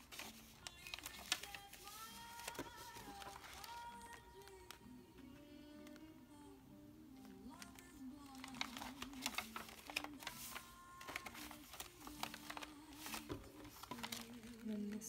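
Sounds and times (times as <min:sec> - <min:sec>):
paper pages rustling: 0:00.0 - 0:06.1, 0:07.2 - 0:15.0.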